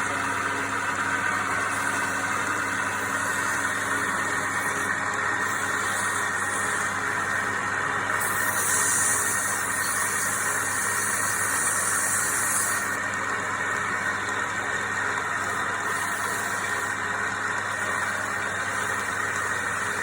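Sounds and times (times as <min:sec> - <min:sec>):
wood lathe motor hum: 0:00.0 - 0:20.0.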